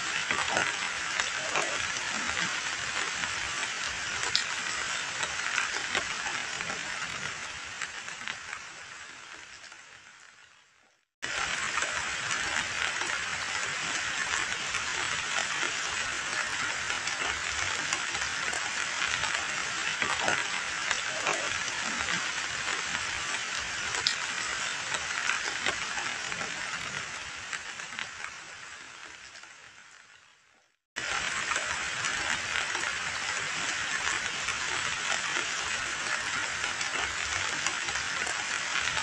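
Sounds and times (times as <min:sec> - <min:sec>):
heavy rain on puddle: 0:00.0 - 0:10.6, 0:11.2 - 0:39.0.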